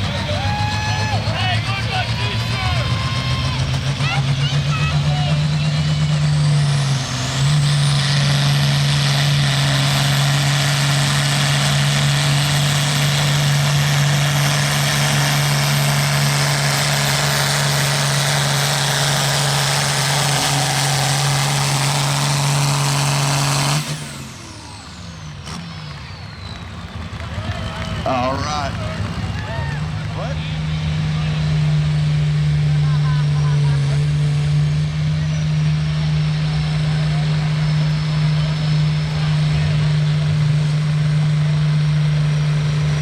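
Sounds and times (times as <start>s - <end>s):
tractor engine at full throttle: 0.0s - 43.0s.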